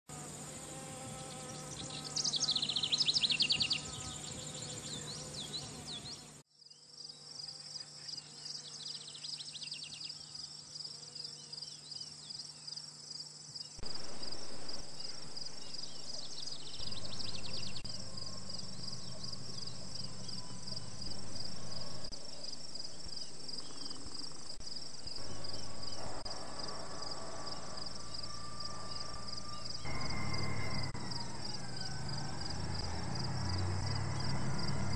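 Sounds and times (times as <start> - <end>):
insects chorus pulsing: 0.1 - 34.9.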